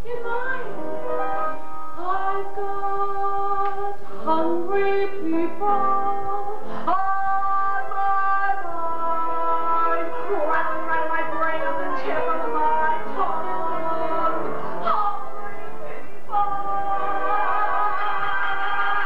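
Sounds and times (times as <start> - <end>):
woman singing into microphone: 0.0 - 18.0
keyboard accompaniment: 0.0 - 19.0.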